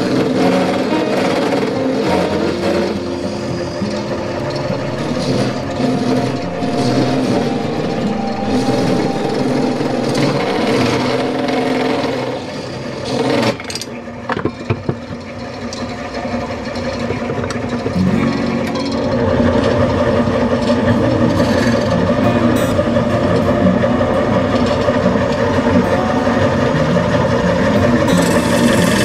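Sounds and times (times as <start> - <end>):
wood lathe humming: 0.0 - 13.5, 19.0 - 29.0.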